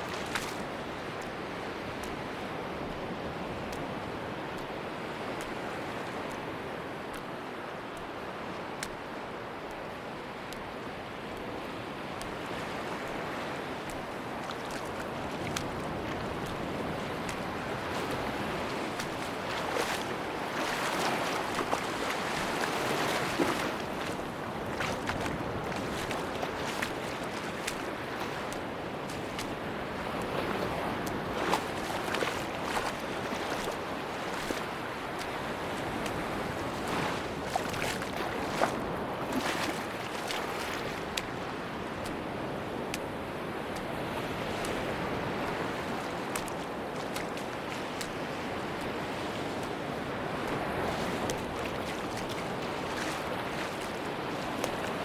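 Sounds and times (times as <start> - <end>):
sea waves washing on beach: 0.0 - 55.0.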